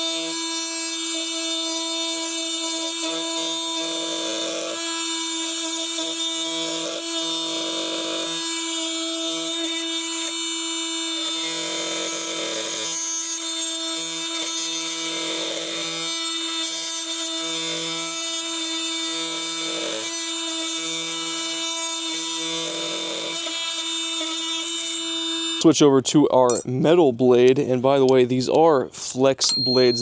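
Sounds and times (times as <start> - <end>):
oscillating tool cutting wood: 0.0 - 25.7.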